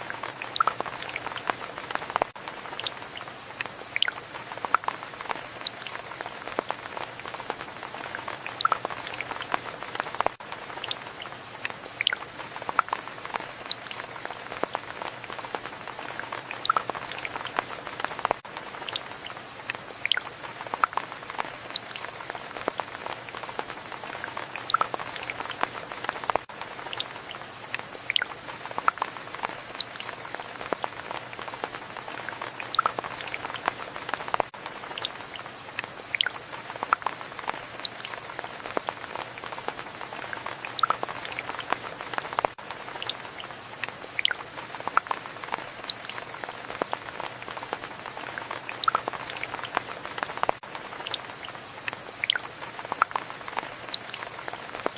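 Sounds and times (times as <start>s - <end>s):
rain drops pattering: 0.0s - 54.9s.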